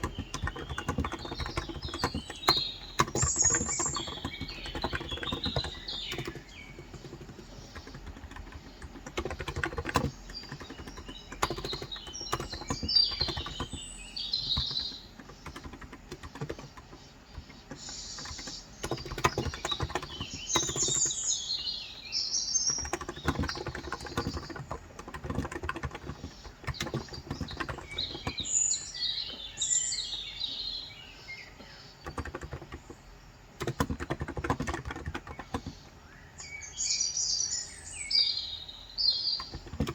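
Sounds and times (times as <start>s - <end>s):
typing on a keyboard: 0.0s - 21.8s, 22.5s - 30.2s, 32.0s - 36.0s, 39.3s - 39.9s
birds chirping: 0.0s - 39.9s.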